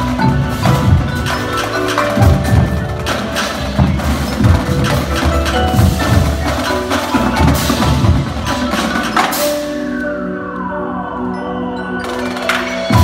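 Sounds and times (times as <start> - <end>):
marimbas ringing: 0.0 - 13.0.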